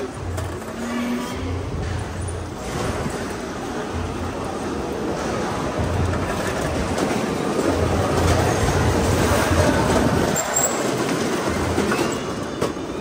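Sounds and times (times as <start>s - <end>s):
go-kart rumbling on concrete: 0.0s - 13.0s.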